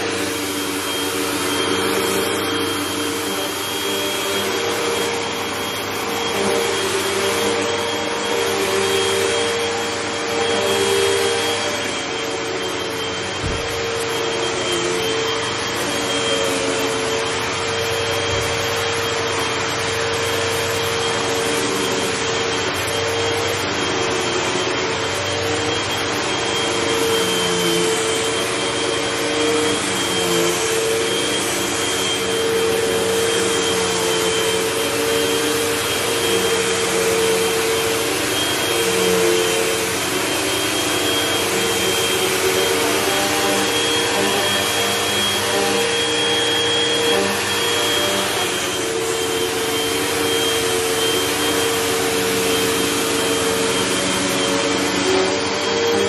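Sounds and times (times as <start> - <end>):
vacuum cleaner running over carpet: 0.0 - 56.0.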